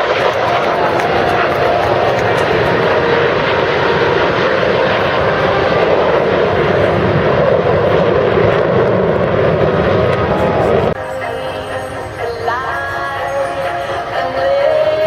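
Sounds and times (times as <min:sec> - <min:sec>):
jet aircraft engine roar: 0:00.0 - 0:15.0.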